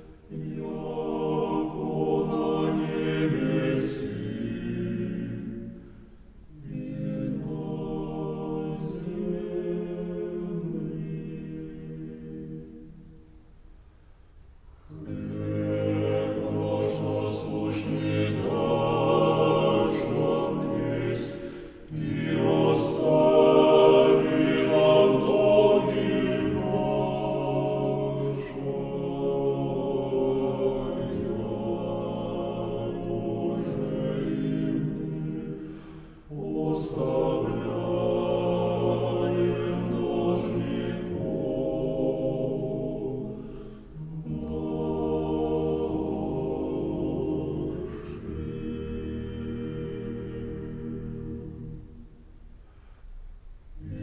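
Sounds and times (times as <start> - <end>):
choir singing held chords: 0.0 - 52.8, 53.6 - 54.0.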